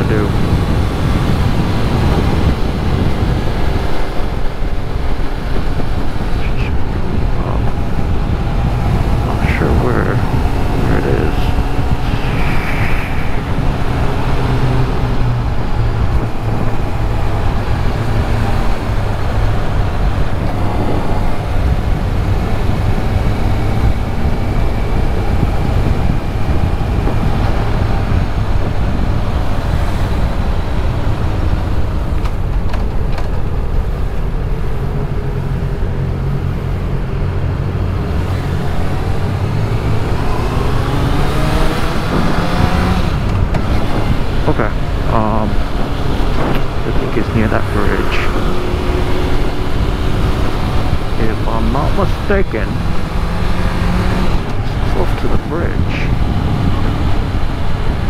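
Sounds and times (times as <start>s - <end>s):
motorcycle engine cruising: 0.0s - 58.0s
surrounding car and scooter engines: 0.0s - 58.0s
wind and road rumble: 0.0s - 58.0s.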